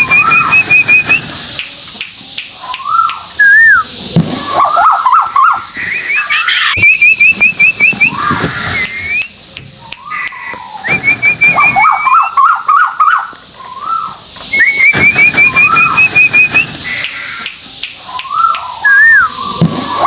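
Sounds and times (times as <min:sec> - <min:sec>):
bird song with whistled notes: 0:00.0 - 0:01.4, 0:02.6 - 0:20.0.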